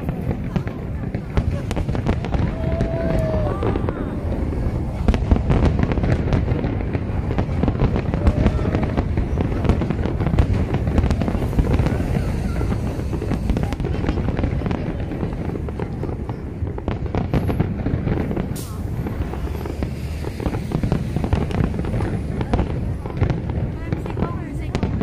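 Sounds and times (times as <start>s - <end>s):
firework bursts and crackles: 0.0s - 25.0s.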